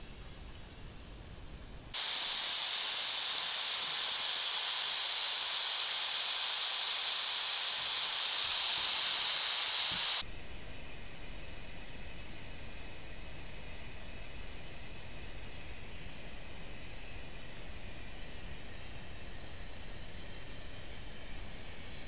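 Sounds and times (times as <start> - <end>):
high-pitched static hiss: 0.0 - 22.0.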